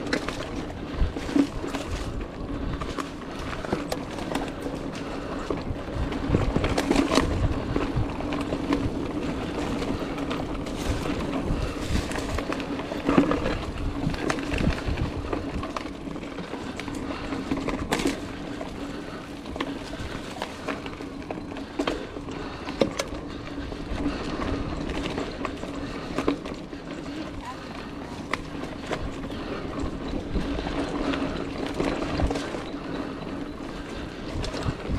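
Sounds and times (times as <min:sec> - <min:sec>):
bike rattles and knocks: 0:00.0 - 0:34.9
bike tyres rolling over dirt and leaves: 0:00.0 - 0:34.9.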